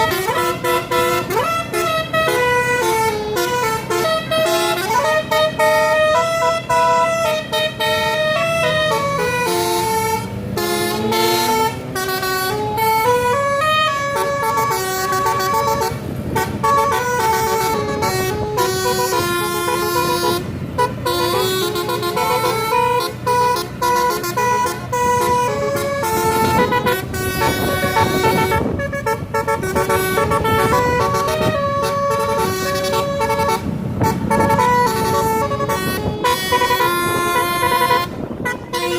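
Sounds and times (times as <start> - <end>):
bus engine revving: 0.0 - 38.9
musical air horn playing tune: 0.0 - 38.9.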